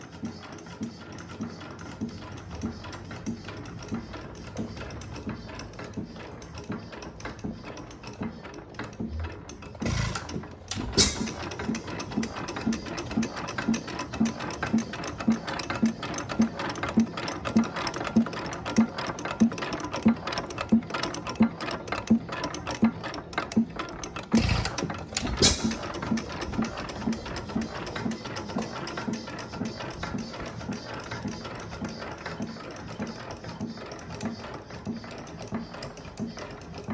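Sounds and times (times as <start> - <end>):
engine gears clattering: 0.1 - 36.9.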